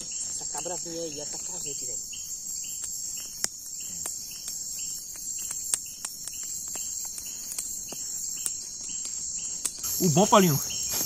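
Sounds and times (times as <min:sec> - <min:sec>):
campfire crackling and popping: 0:00.0 - 0:11.0
night insects trilling: 0:00.0 - 0:11.0
short insect chirp: 0:00.0 - 0:11.0.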